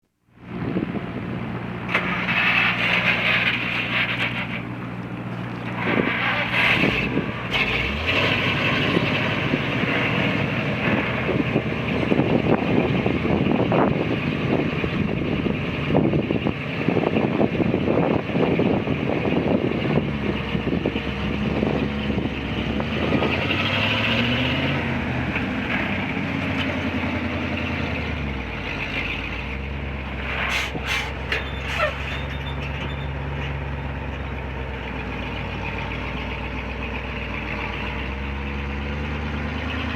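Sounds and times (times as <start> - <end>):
truck engine running with rattle: 0.2 - 39.9.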